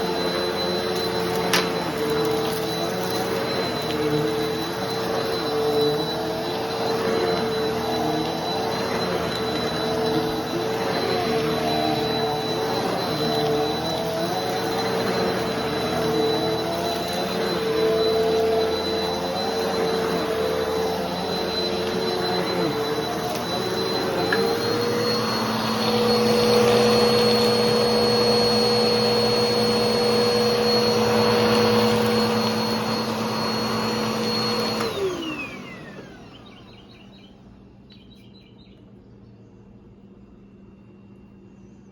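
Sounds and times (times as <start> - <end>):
motor winding down whine: 0.0 - 36.8
upright vacuum running: 0.0 - 37.3.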